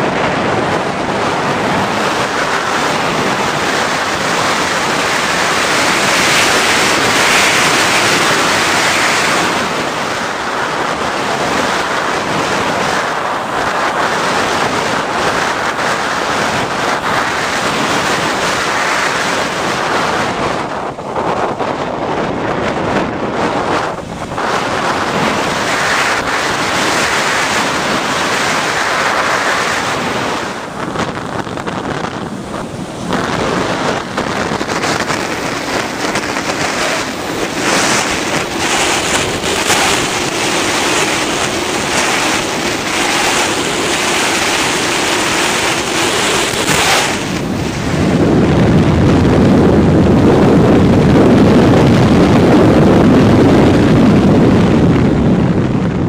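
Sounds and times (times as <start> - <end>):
airflow rushing over microphone: 0.0 - 56.0.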